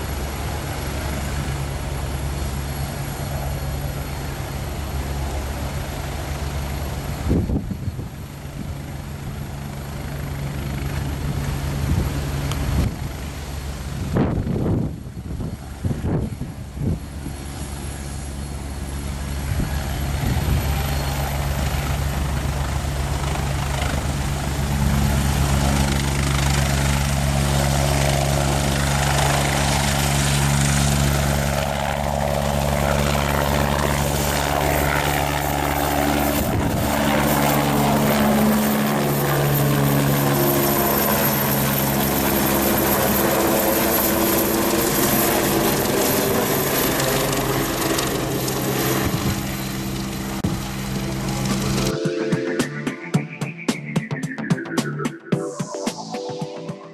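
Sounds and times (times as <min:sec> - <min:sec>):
helicopter engines and rotor: 0:00.0 - 0:53.4.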